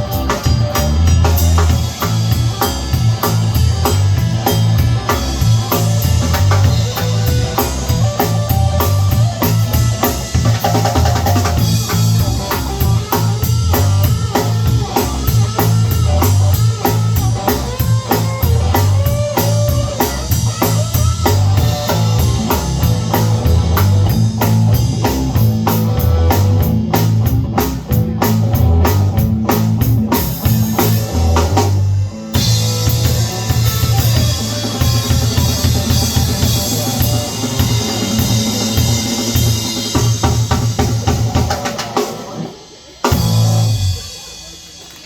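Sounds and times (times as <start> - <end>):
pulsing bass line: 0.0 - 41.4, 43.2 - 43.8
blues band playing: 0.0 - 45.0
busy drum-kit hits: 0.0 - 45.0.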